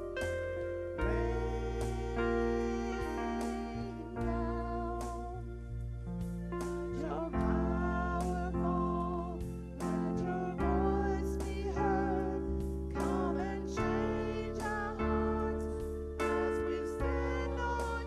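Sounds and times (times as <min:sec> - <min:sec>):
instrumental chords and bass: 0:00.0 - 0:18.0.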